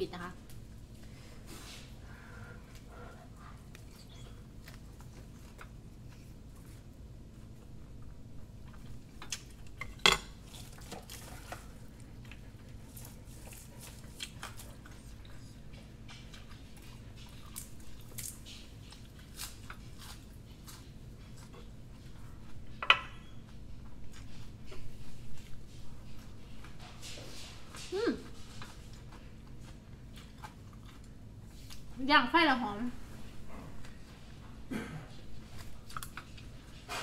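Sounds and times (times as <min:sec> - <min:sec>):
low steady hum: 0:00.0 - 0:37.0
chewing crisp food: 0:02.6 - 0:22.8, 0:23.4 - 0:32.0, 0:35.3 - 0:37.0.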